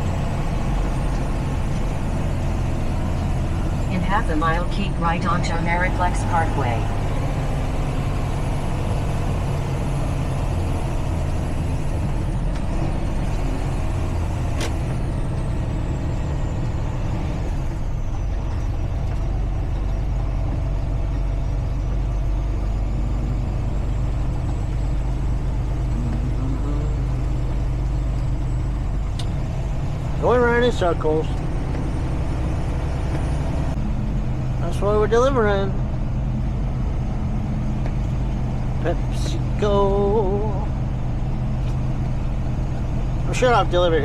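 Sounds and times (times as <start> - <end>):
truck engine and road drone: 0.0 - 44.0.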